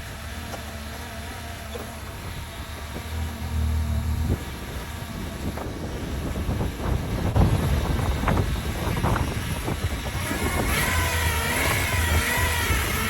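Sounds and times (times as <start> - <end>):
truck engine hum: 0.0 - 13.0
wavering transmission whine: 0.0 - 13.0.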